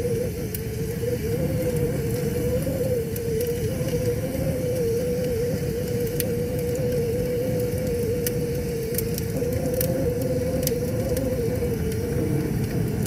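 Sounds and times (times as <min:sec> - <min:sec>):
flames rumbling: 0:00.0 - 0:13.0
logs crackling and popping: 0:00.0 - 0:13.0
steady hum: 0:00.0 - 0:13.0.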